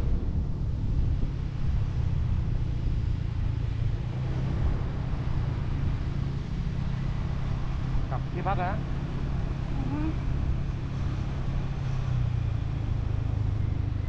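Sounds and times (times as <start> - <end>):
motorbike engine drone: 0.0 - 14.0
road noise: 0.0 - 14.0
wind: 0.0 - 14.0.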